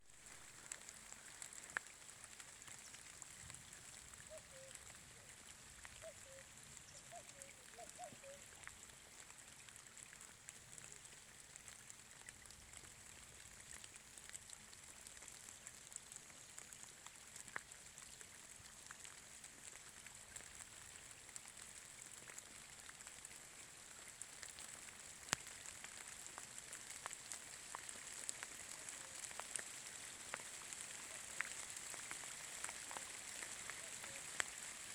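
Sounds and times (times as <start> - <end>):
light rain hiss: 0.0 - 34.9
raindrops ticking on surfaces: 0.0 - 34.9.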